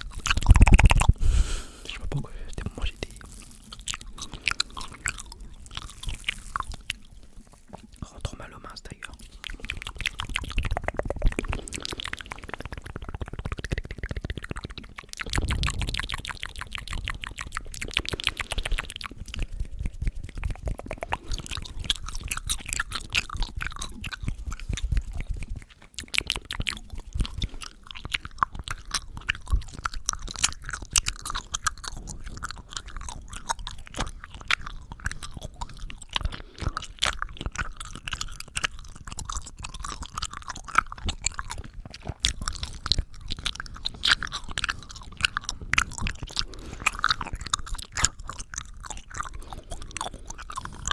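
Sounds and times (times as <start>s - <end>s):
mouth and tongue clicking: 0.0s - 50.9s.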